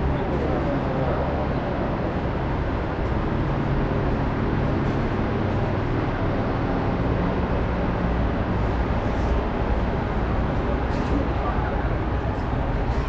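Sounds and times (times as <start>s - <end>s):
low engine hum: 0.0s - 13.0s
street traffic: 0.0s - 13.0s.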